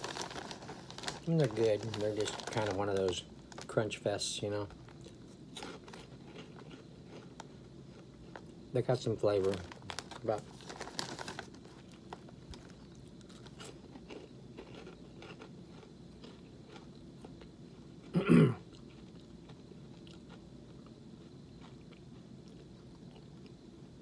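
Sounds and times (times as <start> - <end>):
man crunching cheese puffs: 0.0 - 23.6.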